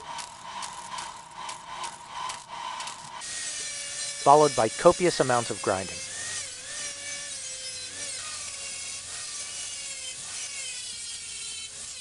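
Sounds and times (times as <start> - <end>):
power grinder grinding metal: 0.0 - 12.0.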